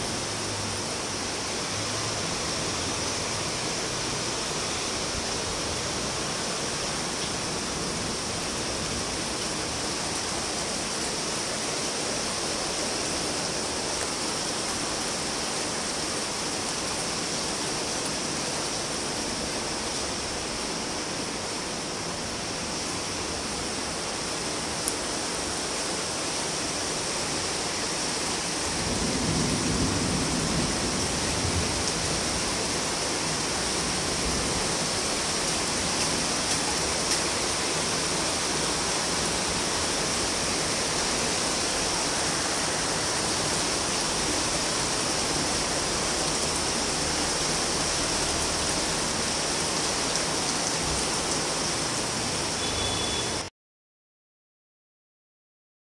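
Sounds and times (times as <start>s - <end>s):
rain on rooftops and wet street: 0.0s - 53.5s.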